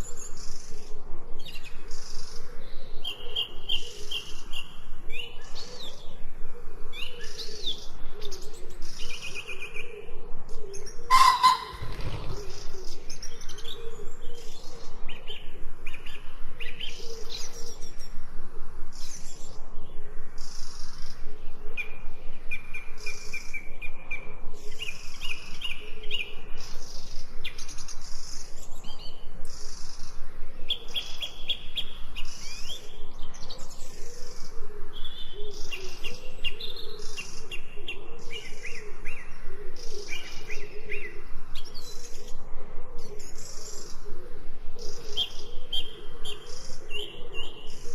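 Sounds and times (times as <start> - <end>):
songbirds chirping and trilling: 0.0 - 47.9.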